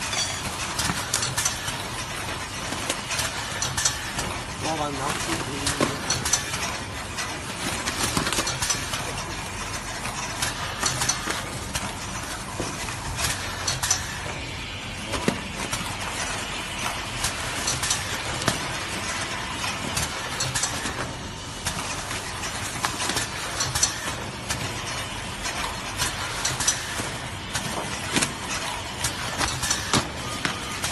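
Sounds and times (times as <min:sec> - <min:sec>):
packaging machine clattering: 0:00.0 - 0:30.9.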